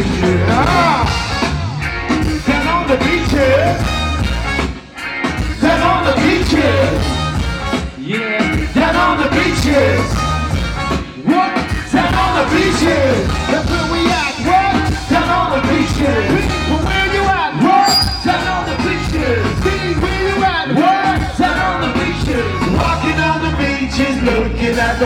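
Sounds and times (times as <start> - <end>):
band playing ska dance music: 0.0 - 25.0
heavy bass: 0.0 - 25.0.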